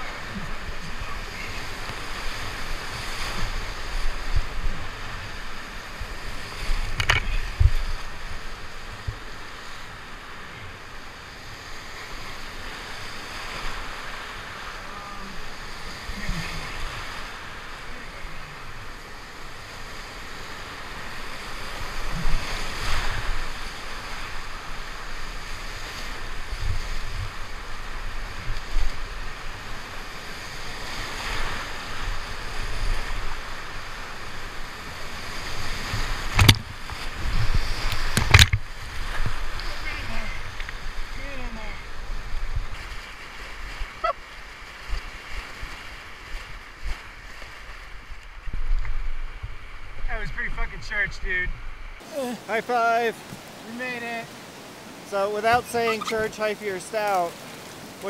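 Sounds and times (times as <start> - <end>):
churning river rapids: 0.0 - 48.2, 52.0 - 58.0.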